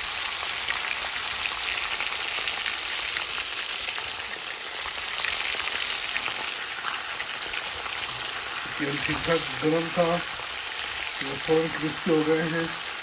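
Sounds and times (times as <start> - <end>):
prawns deep-frying in hot oil: 0.0 - 13.0.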